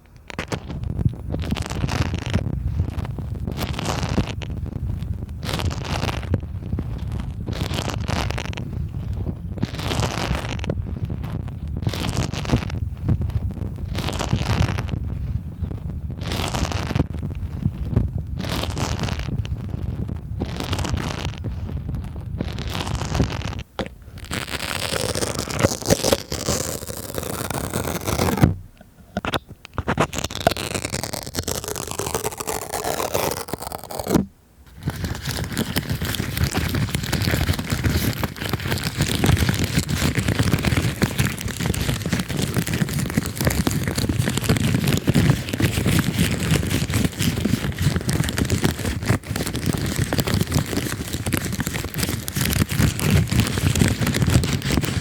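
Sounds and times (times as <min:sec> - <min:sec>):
stickers scraped on microphone: 0:00.0 - 0:55.0
balloon rubbed against microphone: 0:00.3 - 0:55.0.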